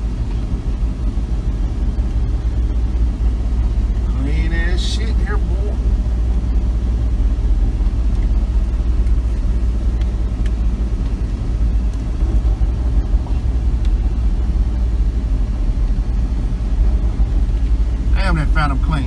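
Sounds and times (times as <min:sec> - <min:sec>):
pickup truck engine rumbling: 0:00.0 - 0:19.0.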